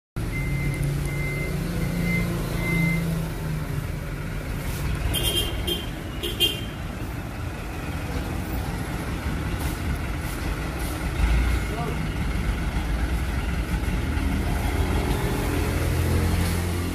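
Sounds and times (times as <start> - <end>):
tractor diesel engine running: 0.2 - 16.9.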